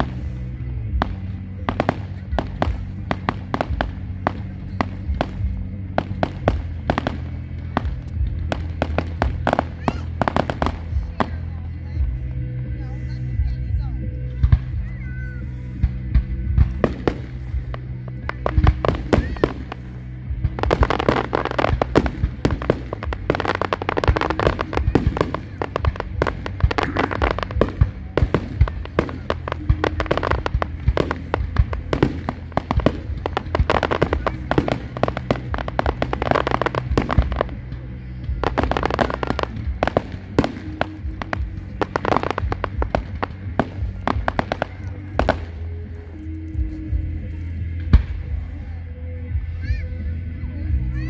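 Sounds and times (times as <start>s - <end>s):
fireworks crackling and popping: 0.0s - 48.8s
music playing: 0.0s - 51.0s.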